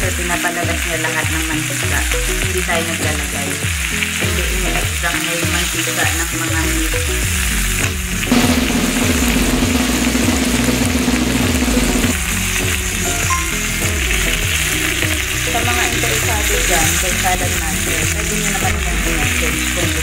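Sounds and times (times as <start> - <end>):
chicken sizzling in skillet: 0.1 - 20.0.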